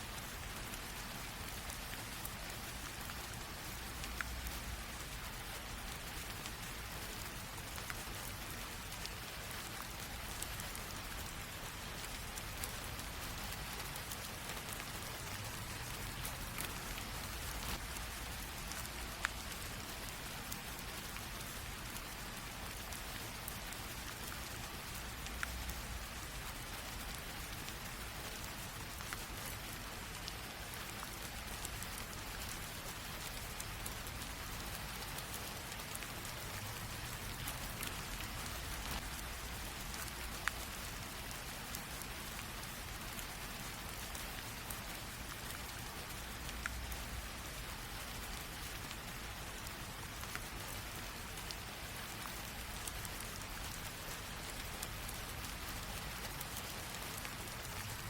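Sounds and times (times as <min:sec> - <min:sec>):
light rain falling: 0:00.0 - 0:58.0
raindrop ticks: 0:00.1 - 0:58.0.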